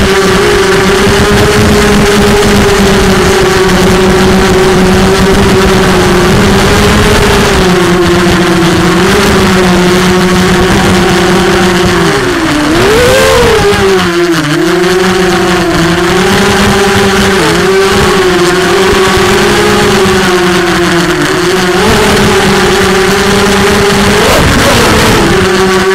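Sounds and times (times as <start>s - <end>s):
drone motors whining: 0.0s - 25.9s.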